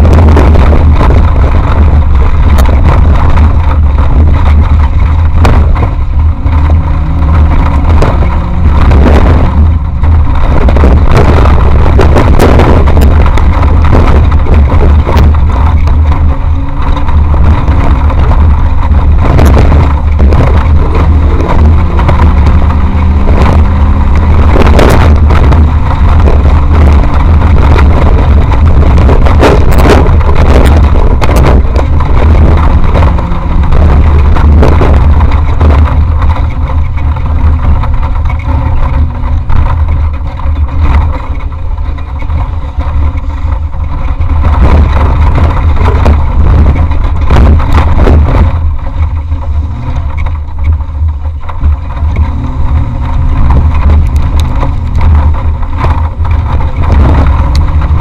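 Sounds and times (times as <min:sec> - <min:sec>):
body knocks and rattles: 0:00.0 - 0:58.0
heavy engine rumble: 0:00.0 - 0:58.0.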